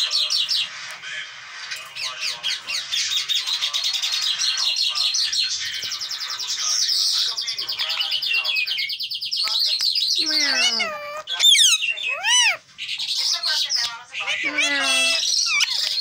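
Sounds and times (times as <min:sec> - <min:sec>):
parakeet chirping: 0:02.0 - 0:16.0.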